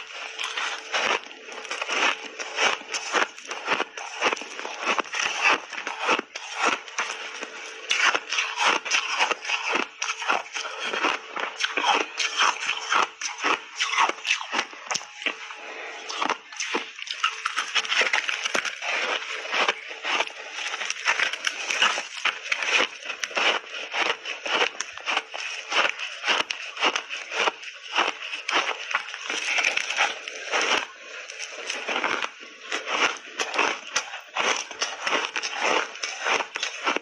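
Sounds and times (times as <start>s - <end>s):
chewing crunchy ice: 0.0s - 37.0s.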